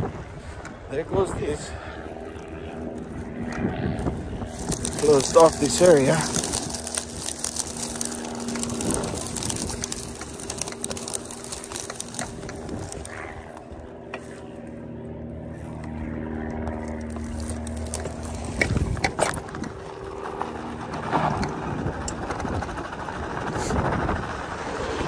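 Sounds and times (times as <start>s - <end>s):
tyre and wind noise: 0.0s - 14.5s, 16.8s - 25.0s
electric hub motor whining: 0.0s - 25.0s.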